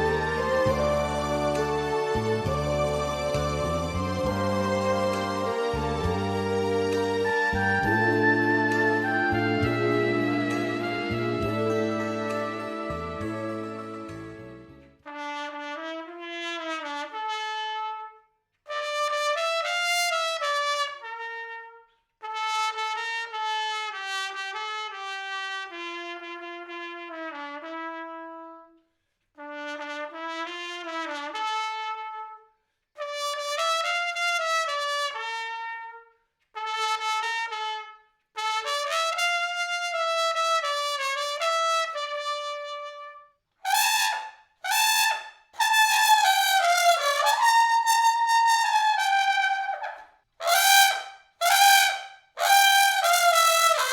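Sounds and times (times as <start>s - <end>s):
solo trumpet melody: 0.0s - 28.8s, 29.4s - 53.9s.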